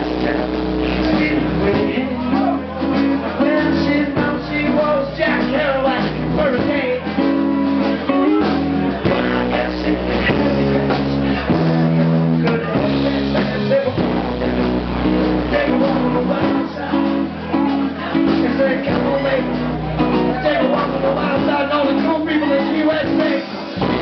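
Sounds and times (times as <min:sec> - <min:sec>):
drums: 0:00.0 - 0:24.0
electric guitar: 0:00.0 - 0:24.0.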